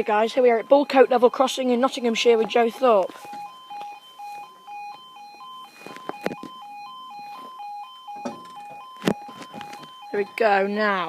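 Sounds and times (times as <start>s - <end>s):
two-tone crossing alarm: 0.0s - 11.0s.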